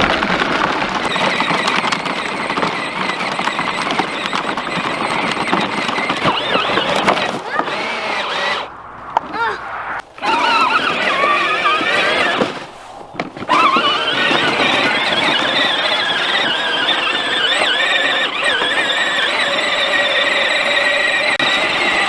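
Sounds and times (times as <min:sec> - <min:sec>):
toy tractor motor whining: 0:00.0 - 0:22.0.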